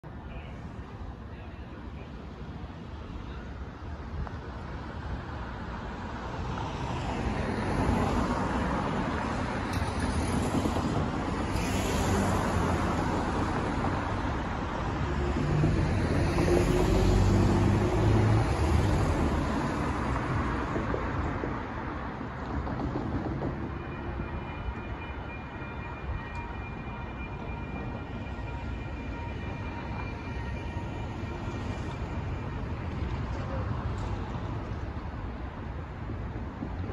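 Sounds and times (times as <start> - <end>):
cars driving by: 4.2 - 36.9.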